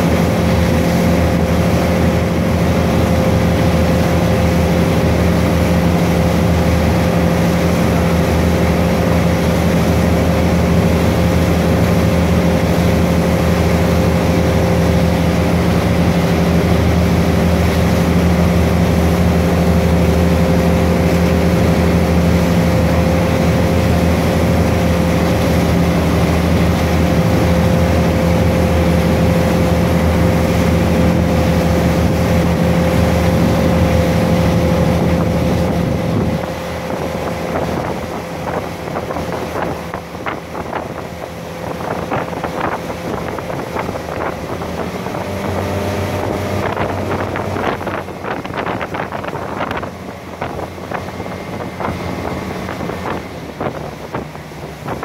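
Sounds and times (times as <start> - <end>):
boat engine drone: 0.0 - 55.0
churning wake water: 0.0 - 55.0.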